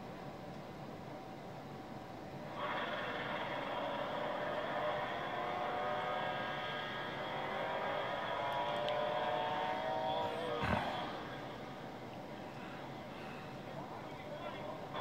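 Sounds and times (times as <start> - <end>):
drag racing engines full throttle: 2.4 - 15.0.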